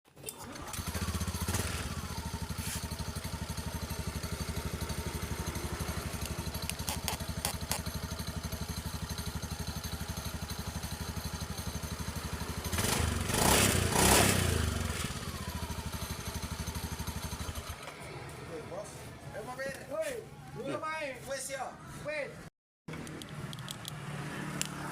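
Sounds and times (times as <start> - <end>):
motorcycle engine idling and revving: 0.4 - 19.4, 22.9 - 24.9.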